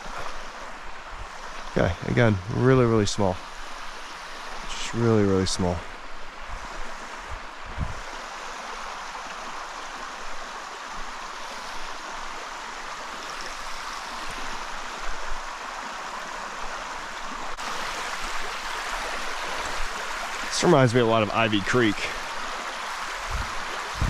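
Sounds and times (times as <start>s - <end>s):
stream flowing over rocks: 0.0s - 24.0s.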